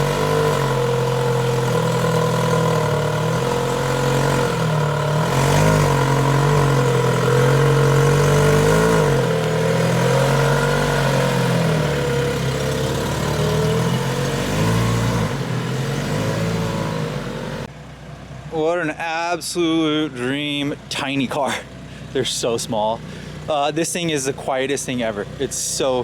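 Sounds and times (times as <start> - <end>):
car engine running at low revs: 0.0 - 26.0.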